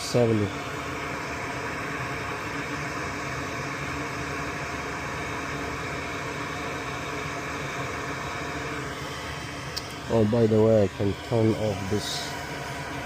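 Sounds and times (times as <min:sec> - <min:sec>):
hot air hissing: 0:00.0 - 0:13.0.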